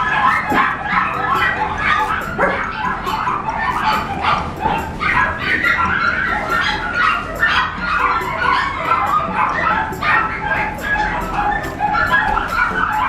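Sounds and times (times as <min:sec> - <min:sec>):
puppies whimpering: 0:00.0 - 0:13.0
puppies yipping and barking: 0:00.0 - 0:13.0.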